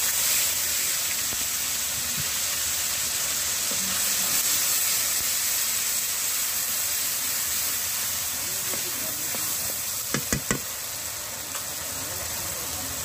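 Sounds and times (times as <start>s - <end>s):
onion paste sizzling in oil: 0.0s - 13.0s.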